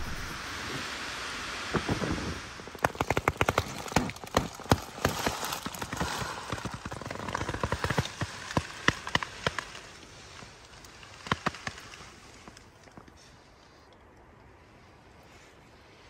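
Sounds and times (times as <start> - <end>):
snow ticking on tent fabric: 0.0 - 13.8
blizzard wind: 0.0 - 16.0.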